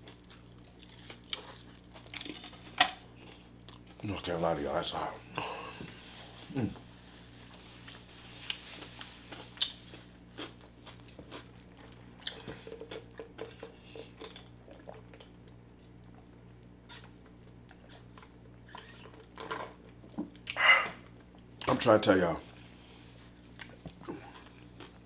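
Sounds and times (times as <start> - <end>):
person chewing and crunching food: 0.0 - 4.4, 5.0 - 21.8, 22.4 - 25.0.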